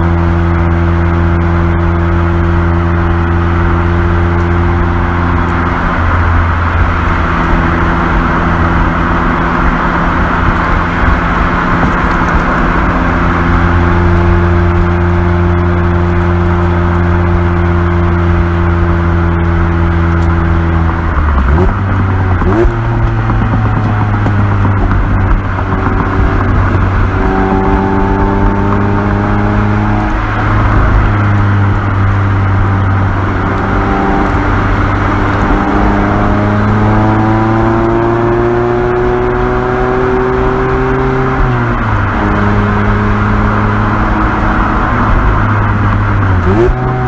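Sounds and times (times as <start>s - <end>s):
car engine and exhaust: 0.0s - 47.0s
road and wind noise: 0.0s - 47.0s.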